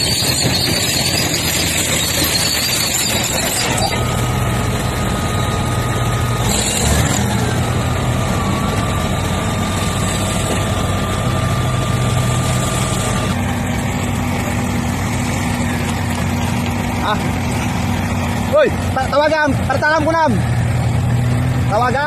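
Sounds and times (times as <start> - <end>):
bulldozer diesel engine: 0.0 - 22.0
high whine: 0.0 - 22.0.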